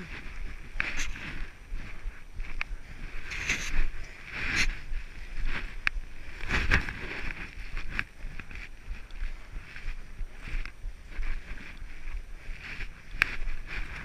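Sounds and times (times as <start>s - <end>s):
footsteps crunching on stony path: 0.0s - 14.0s
wind rumble on microphone: 0.0s - 14.0s.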